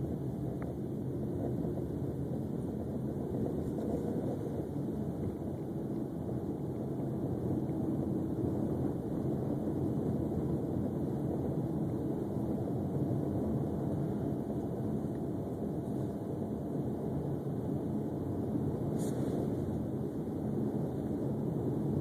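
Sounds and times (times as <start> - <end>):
car engine and tyre drone: 0.0 - 17.9
faint steady hum: 0.0 - 22.0.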